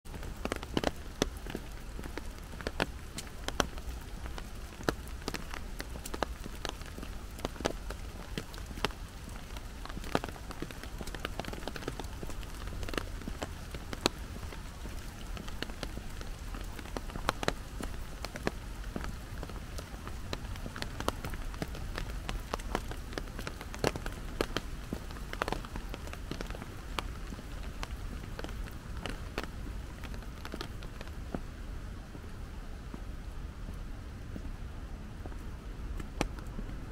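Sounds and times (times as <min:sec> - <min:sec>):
large raindrops tapping: 0:00.1 - 0:33.0, 0:33.6 - 0:36.9
steady rain hiss: 0:00.1 - 0:36.9.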